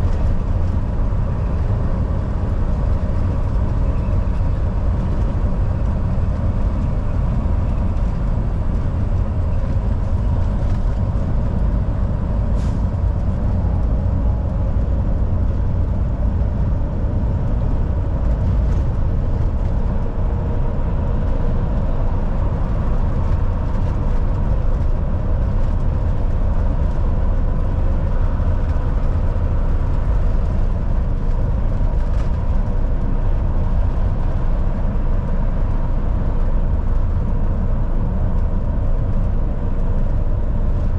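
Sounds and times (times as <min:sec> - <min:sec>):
truck engine drone: 0:00.0 - 0:40.9
tyre and road noise: 0:00.0 - 0:40.9.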